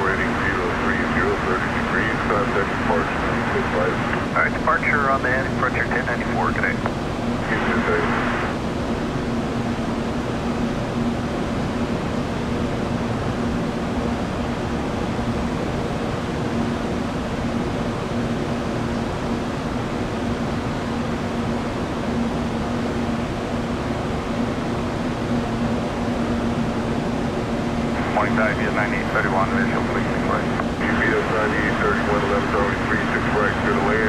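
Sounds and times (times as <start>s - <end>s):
jet engines humming: 0.0s - 34.0s.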